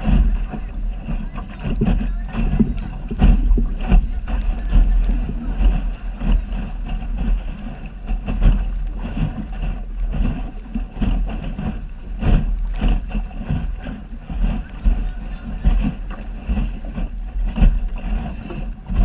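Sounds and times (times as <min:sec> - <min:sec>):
water rushing along hull: 0:00.0 - 0:19.0
waves slapping bow: 0:00.0 - 0:19.0
wind buffeting microphone: 0:00.0 - 0:19.0.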